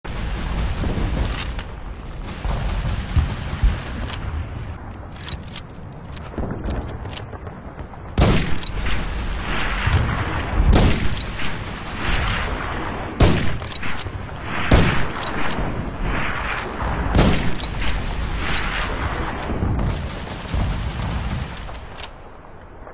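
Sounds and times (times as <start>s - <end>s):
rifle shots with rolling echo: 0.1s - 22.9s.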